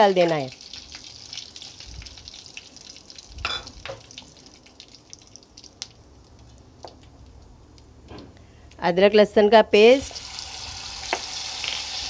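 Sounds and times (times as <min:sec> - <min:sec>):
spices crackling in hot oil: 0:00.0 - 0:08.4, 0:09.8 - 0:12.0.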